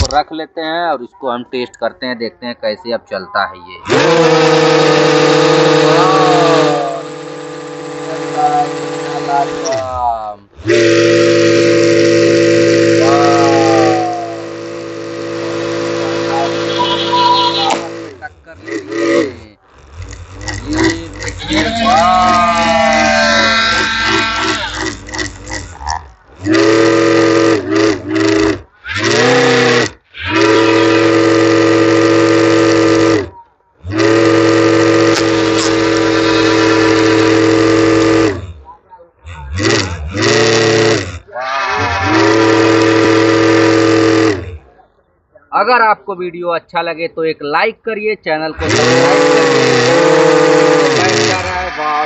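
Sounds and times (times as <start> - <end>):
small motor whining: 3.8 - 38.7, 39.3 - 44.7, 48.6 - 52.0.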